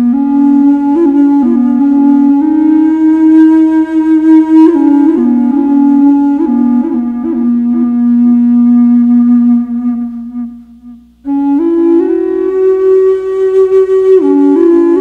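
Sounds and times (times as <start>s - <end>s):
slow solo melody: 0.0s - 15.0s.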